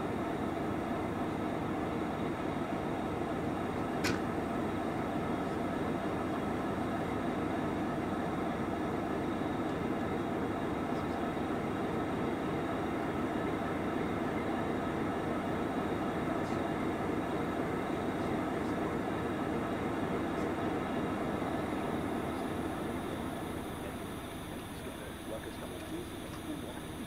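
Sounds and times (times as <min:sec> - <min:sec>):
locomotives idling drone: 0:04.4 - 0:27.0.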